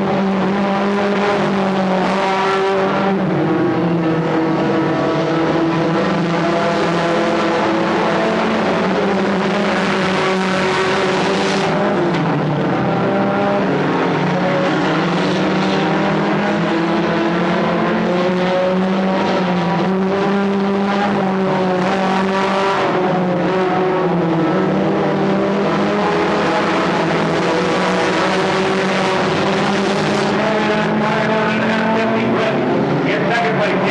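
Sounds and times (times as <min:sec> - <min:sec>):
race car engines: 0:00.0 - 0:33.9.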